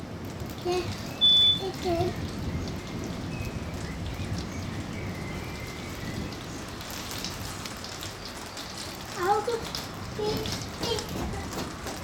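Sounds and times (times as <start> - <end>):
steady rain hiss: 0.0 - 12.0
raindrop ticks: 0.2 - 5.0, 5.6 - 12.0.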